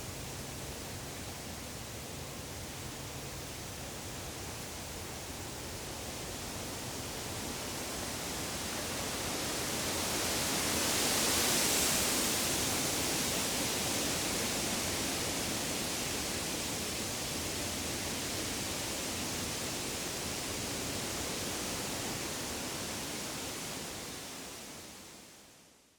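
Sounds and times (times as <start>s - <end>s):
wind rustling leaves: 0.0s - 25.8s.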